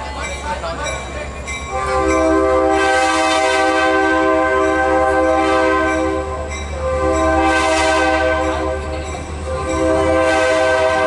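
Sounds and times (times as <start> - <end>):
train low rumble: 0.0 - 11.0
locomotive air horn blasts: 1.7 - 11.0.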